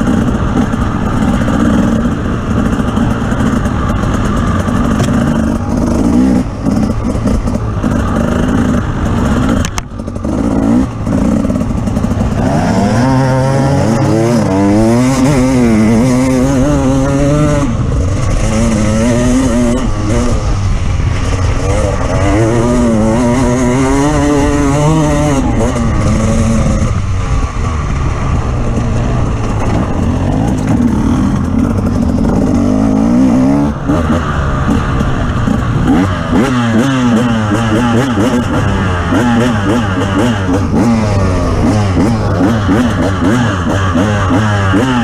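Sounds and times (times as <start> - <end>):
off-road vehicle engine revving: 0.0 - 45.0.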